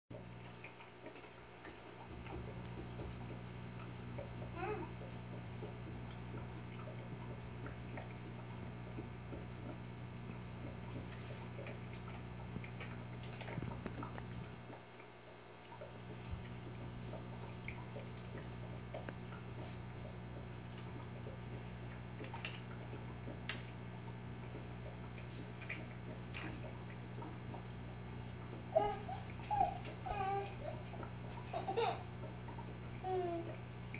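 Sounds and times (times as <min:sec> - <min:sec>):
aquarium filter hum: 0:00.1 - 0:33.9
water trickling and dripping: 0:00.2 - 0:33.9.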